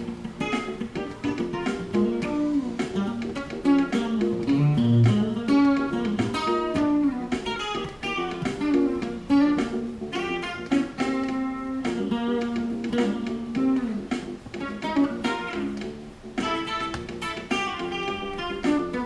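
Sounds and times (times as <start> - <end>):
electric guitar funk lines: 0.0 - 19.0
funk backing track: 0.0 - 19.0.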